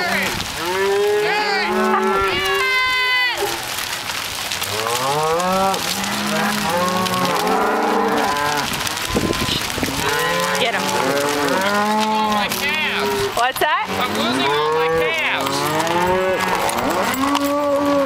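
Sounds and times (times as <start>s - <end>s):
cattle mooing and bawling: 0.0s - 3.7s, 4.6s - 18.0s.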